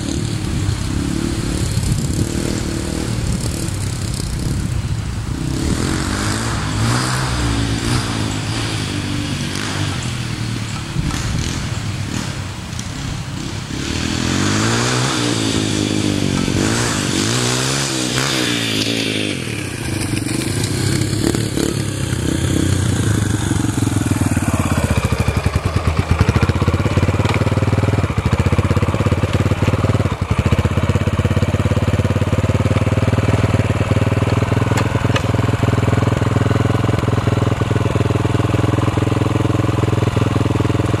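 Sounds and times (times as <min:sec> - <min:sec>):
dirt bike engine running: 0:00.0 - 0:41.0.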